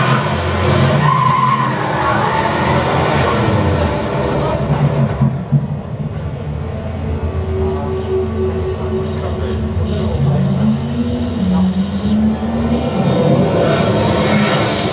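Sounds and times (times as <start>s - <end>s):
rushing noise: 0.0s - 14.9s.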